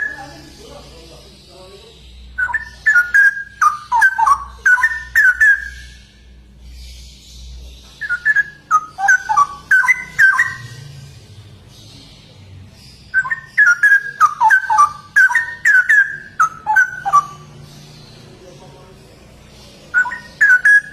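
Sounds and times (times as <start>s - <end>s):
bird singing whistled notes: 0.0s - 18.4s, 19.5s - 20.9s.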